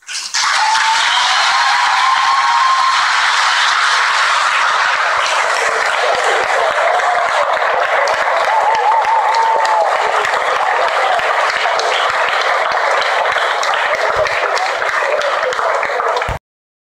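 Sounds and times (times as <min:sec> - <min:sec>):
audience applauding: 0:00.3 - 0:16.4.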